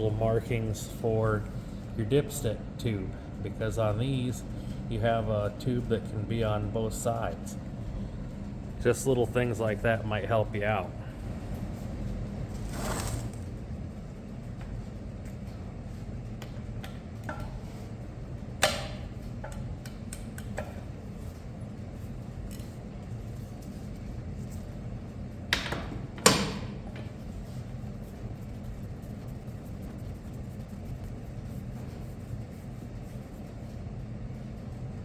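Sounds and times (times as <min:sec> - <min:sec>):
low shop hum: 0:00.0 - 0:35.0.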